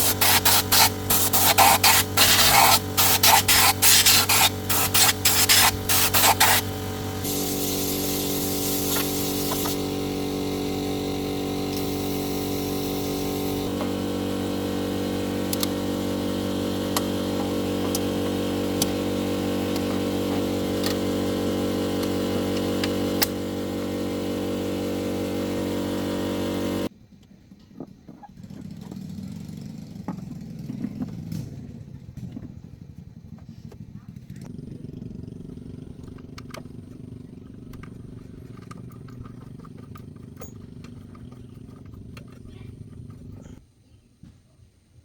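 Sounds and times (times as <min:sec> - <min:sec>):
engine-like hum: 0:00.0 - 0:26.9, 0:27.8 - 0:43.6
vehicle engine running: 0:00.0 - 0:26.9, 0:28.4 - 0:43.6.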